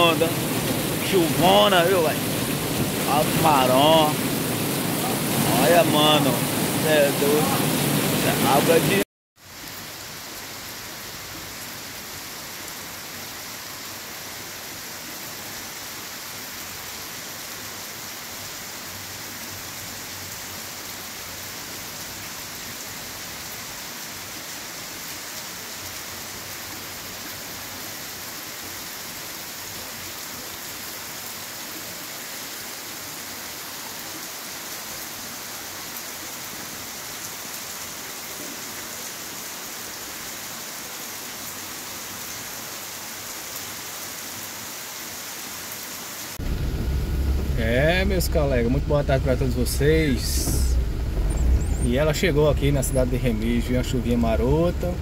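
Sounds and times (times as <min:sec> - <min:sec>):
heavy rain on pavement: 0:00.0 - 0:55.0.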